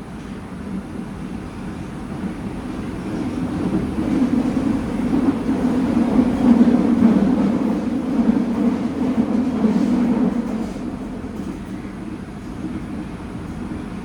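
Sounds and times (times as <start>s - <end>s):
train wheel-on-rail rumble: 0.0s - 14.0s.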